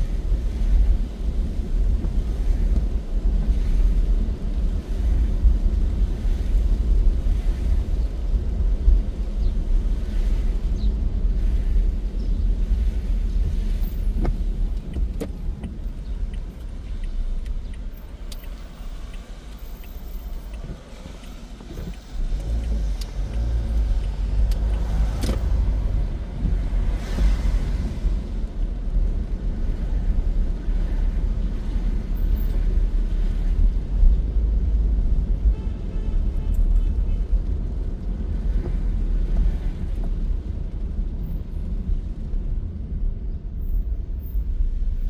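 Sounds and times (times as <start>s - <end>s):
road rumble inside vehicle: 0.0s - 45.0s.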